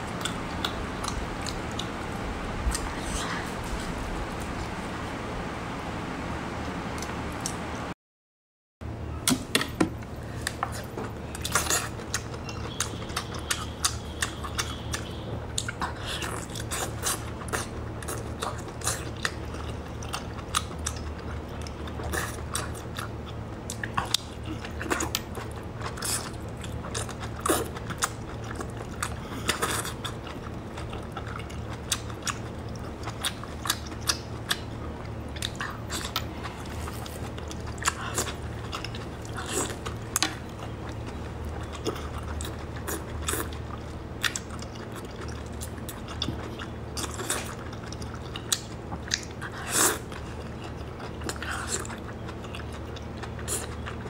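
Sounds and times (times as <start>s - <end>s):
steady low hum: 0.0s - 8.0s, 8.8s - 54.0s
chewing with mouth clicks: 0.1s - 2.0s, 10.3s - 54.0s.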